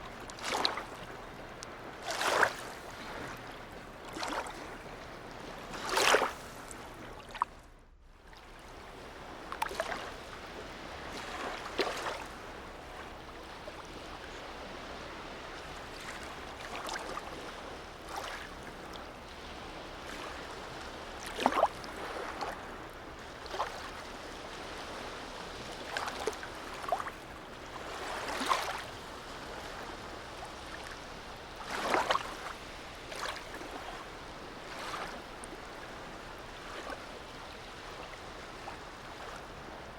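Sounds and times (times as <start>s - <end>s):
small waves slapping: 0.0s - 7.7s, 8.3s - 39.9s
sea water lapping: 0.0s - 39.9s.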